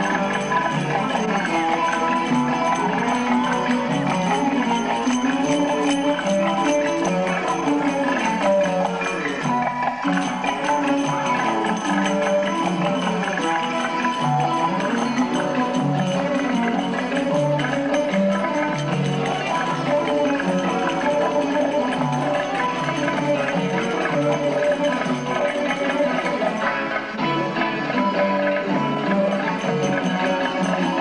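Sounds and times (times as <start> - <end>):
belly-dance music: 0.0 - 31.0.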